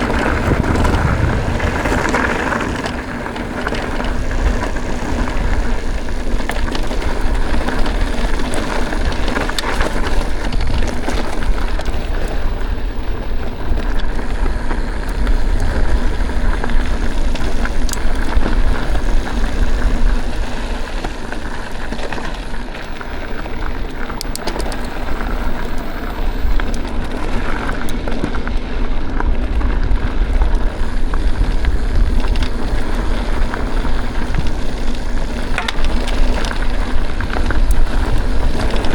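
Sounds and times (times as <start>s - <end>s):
bike rattling: 0.0s - 38.9s
tyres crunching over gravel: 0.0s - 38.9s
wind rumble on microphone: 0.0s - 38.9s.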